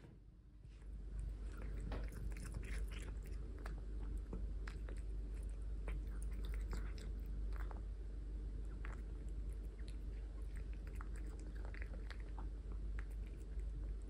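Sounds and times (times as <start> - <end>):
steady low hum: 0.0 - 14.0
cat chewing and licking: 0.8 - 14.0.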